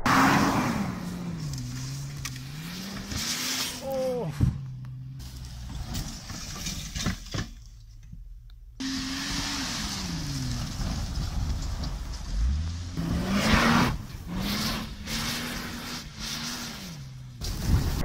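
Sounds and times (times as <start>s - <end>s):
car engine revving: 0.0s - 6.5s, 8.7s - 18.0s
tyres spinning and dirt thrown: 0.7s - 18.0s.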